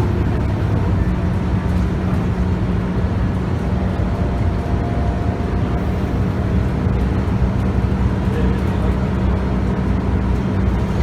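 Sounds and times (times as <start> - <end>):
diesel bus engine running: 0.0 - 11.0
road noise: 0.0 - 11.0.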